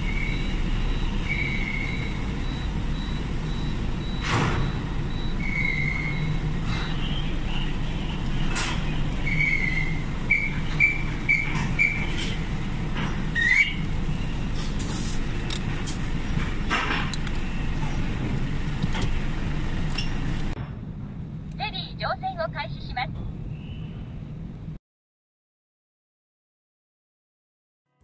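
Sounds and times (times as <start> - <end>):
truck engine running low: 0.0 - 24.6.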